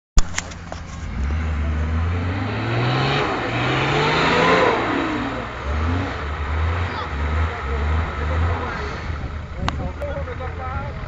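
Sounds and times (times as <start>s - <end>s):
suv engine revving: 0.4s - 11.0s.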